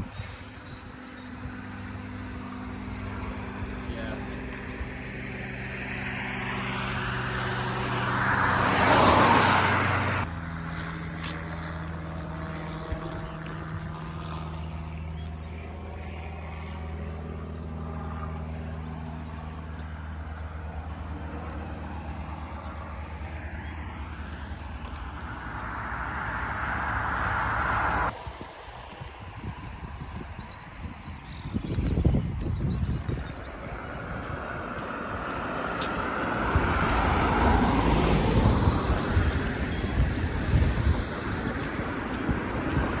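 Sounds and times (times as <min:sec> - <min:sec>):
engine passing by: 0:00.0 - 0:43.0
engines humming: 0:00.0 - 0:43.0.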